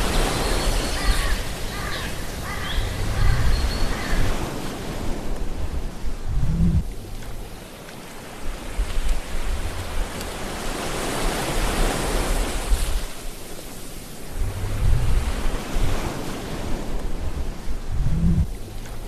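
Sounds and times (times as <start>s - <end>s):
wind buffeting microphone: 0.0s - 7.7s, 8.3s - 13.4s, 14.0s - 19.0s
water splashing against hull: 0.0s - 19.0s.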